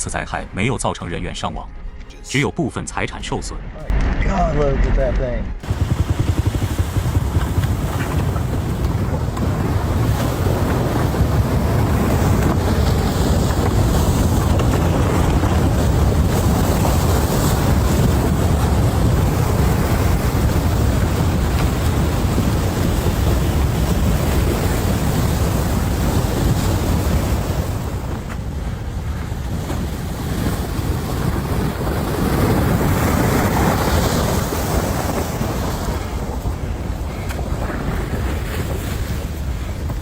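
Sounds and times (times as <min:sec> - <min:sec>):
wind buffeting microphone: 0:03.1 - 0:40.0.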